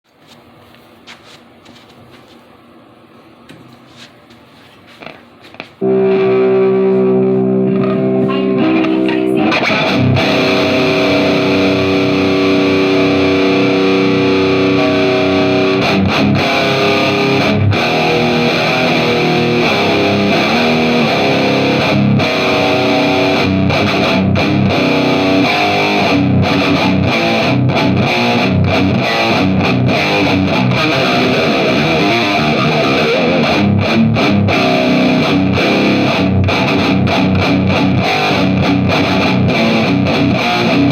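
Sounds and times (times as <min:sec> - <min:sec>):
distorted electric guitar: 0:05.0 - 0:40.9.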